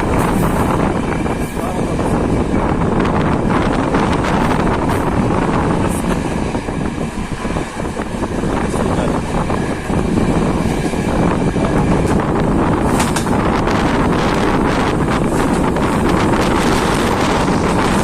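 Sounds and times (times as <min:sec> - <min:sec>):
train rumbling on track: 0:00.0 - 0:18.0
wind buffeting microphone: 0:00.0 - 0:18.0.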